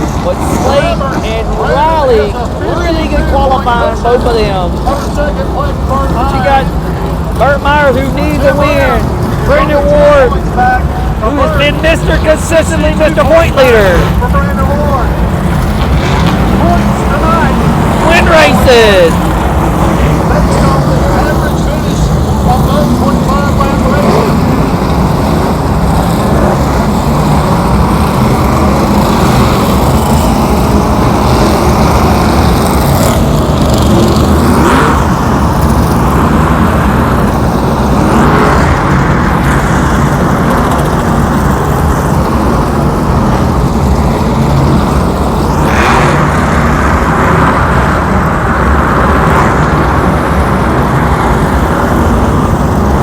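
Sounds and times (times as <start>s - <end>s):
race car engines droning: 0.0s - 53.0s.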